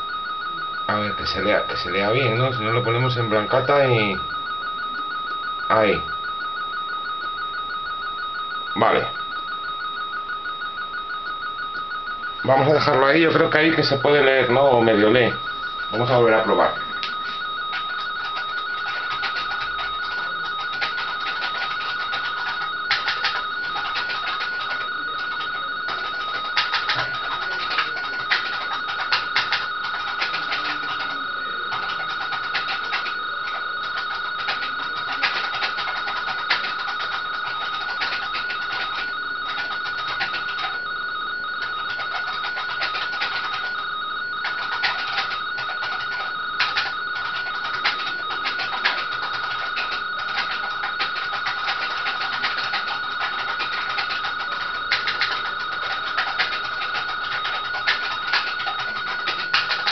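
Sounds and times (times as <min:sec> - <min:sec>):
two-tone warbling radio signal: 0:00.0 - 0:59.9
crackling clicks: 0:11.6 - 0:59.9.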